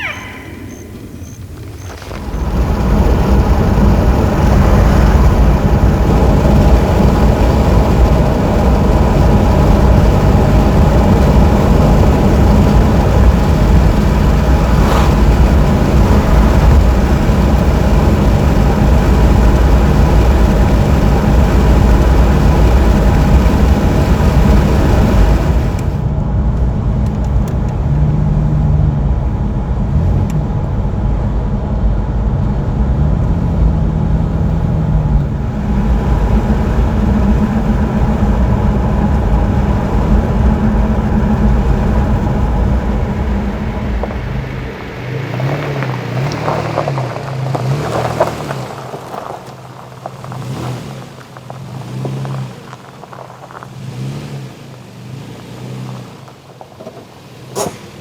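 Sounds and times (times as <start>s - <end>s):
car driving road noise: 0.0s - 58.0s.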